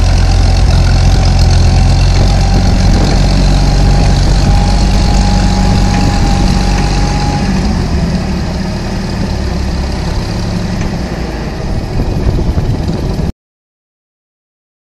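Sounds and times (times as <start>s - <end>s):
engine running at low speed: 0.0s - 13.3s.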